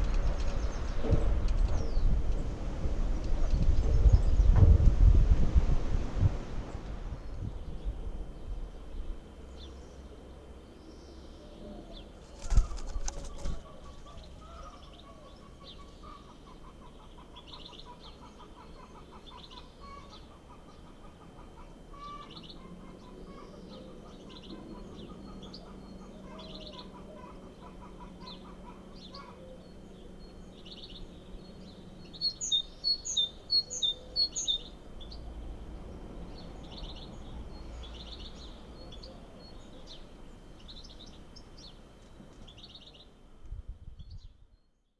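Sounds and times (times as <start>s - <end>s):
birds chirping: 0.0s - 43.3s.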